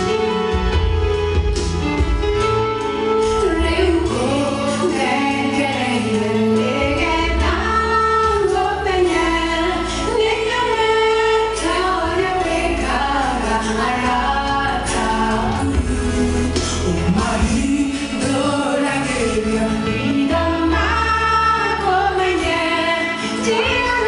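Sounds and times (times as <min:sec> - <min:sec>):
instrumental accompaniment: 0:00.0 - 0:24.0
women's voices singing in harmony: 0:03.4 - 0:24.0.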